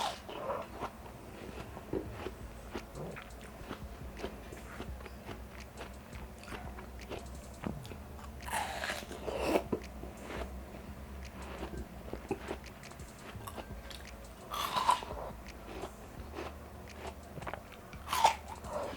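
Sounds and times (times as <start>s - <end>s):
wet chewing: 0.0s - 18.9s.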